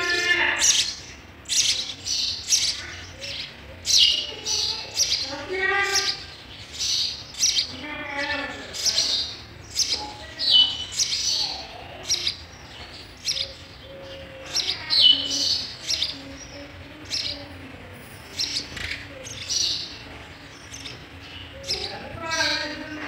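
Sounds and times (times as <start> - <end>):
sparrows chirping: 0.0 - 23.0.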